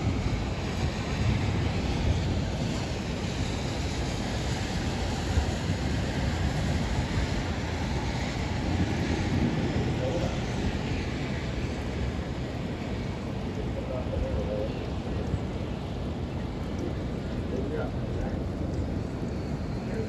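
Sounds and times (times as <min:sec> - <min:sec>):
strong wind gusts: 0:00.0 - 0:20.0
wind buffeting microphone: 0:00.0 - 0:20.0.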